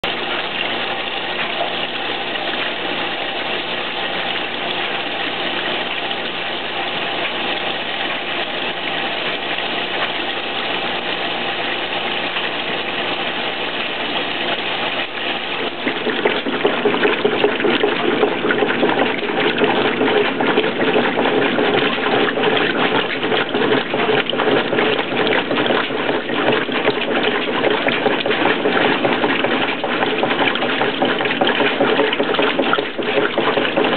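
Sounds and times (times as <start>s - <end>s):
washing machine motor hum: 0.0s - 33.9s
water rushing in drum: 0.0s - 33.9s.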